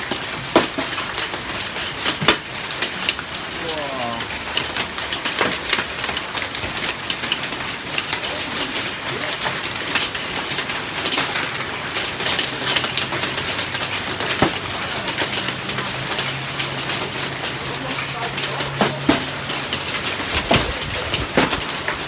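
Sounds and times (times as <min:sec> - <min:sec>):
hailstones pelting down: 0:00.0 - 0:22.0.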